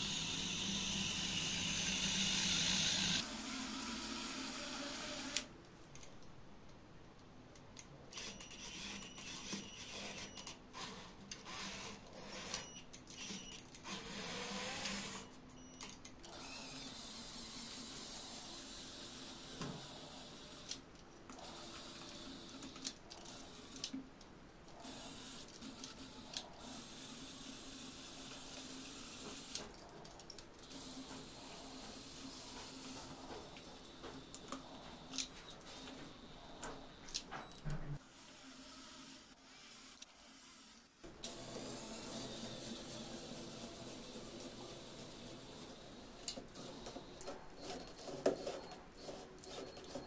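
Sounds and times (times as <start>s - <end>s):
toy car motors whirring: 0.0s - 5.5s, 8.1s - 24.0s, 24.7s - 35.9s, 38.0s - 50.0s.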